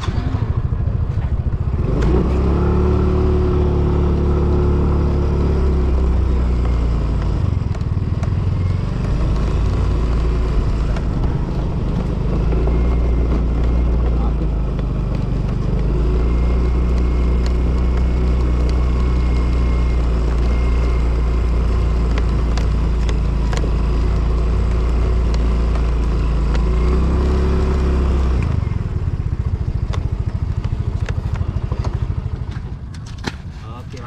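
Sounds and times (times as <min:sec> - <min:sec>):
motor scooter engine running: 0:00.0 - 0:34.0.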